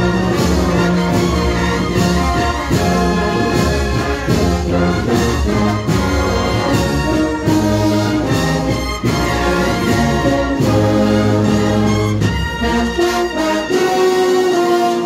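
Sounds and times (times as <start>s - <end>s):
brass band playing slow march: 0.0s - 15.0s.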